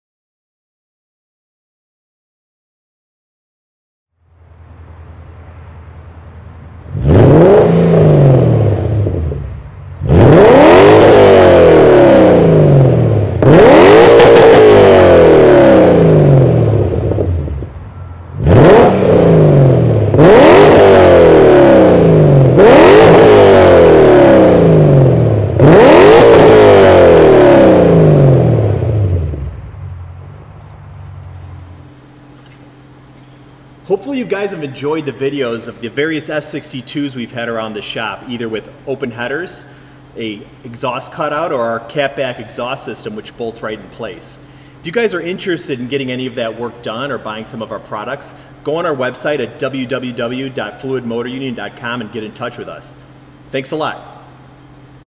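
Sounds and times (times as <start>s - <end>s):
car engine idling: 4.2s - 55.0s
car engine revving: 4.3s - 55.0s.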